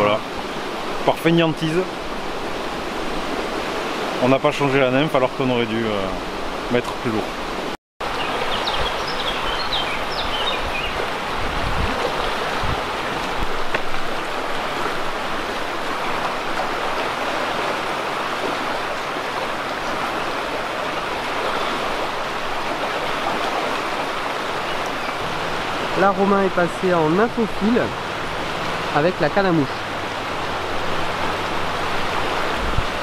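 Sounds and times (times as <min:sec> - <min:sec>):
river rushing over stones: 0:00.0 - 0:33.0.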